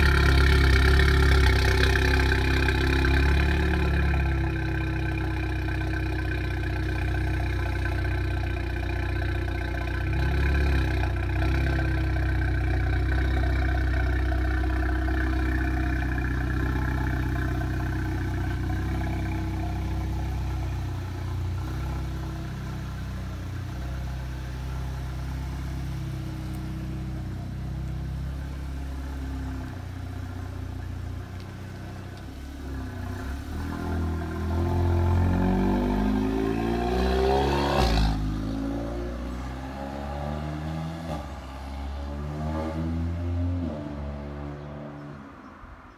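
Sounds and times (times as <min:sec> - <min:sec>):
car engine idling: 0:00.0 - 0:39.7.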